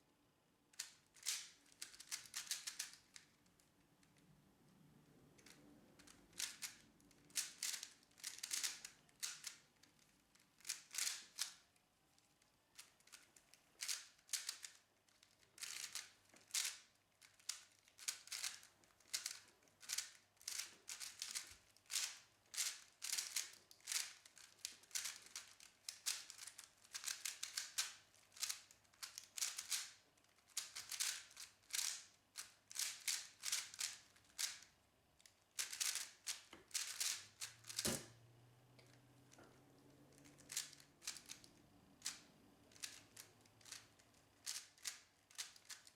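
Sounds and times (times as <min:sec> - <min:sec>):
puzzle cube clicking: 0:00.8 - 0:03.3, 0:05.4 - 0:11.6, 0:12.8 - 0:29.9, 0:30.5 - 0:34.7, 0:35.6 - 0:38.1, 0:40.2 - 0:45.9.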